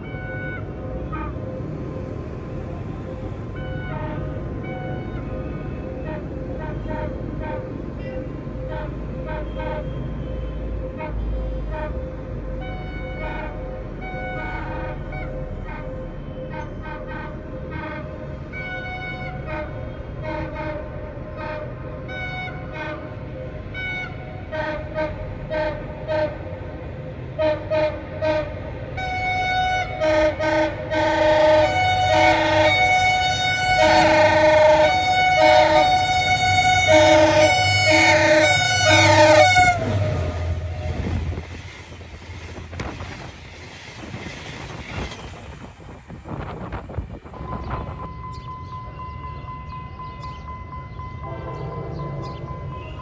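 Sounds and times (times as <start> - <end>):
train horn blasts: 0.0 - 1.6, 3.5 - 26.7, 27.3 - 43.3, 51.2 - 53.0
locomotive engine rumbling: 0.0 - 53.0.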